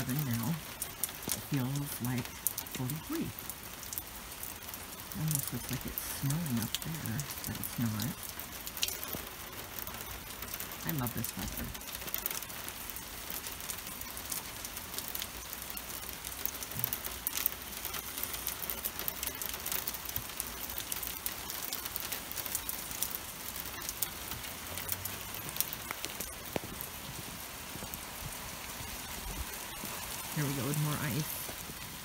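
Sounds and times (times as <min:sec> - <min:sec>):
rain pattering on pavement: 0:00.0 - 0:32.0
raindrop ticks: 0:00.0 - 0:32.0.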